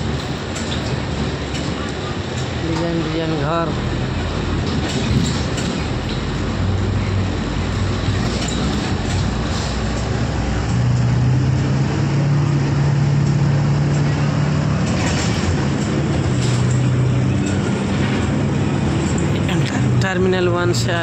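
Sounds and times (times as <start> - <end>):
bus engine hum: 0.0 - 21.0
road noise: 0.0 - 21.0.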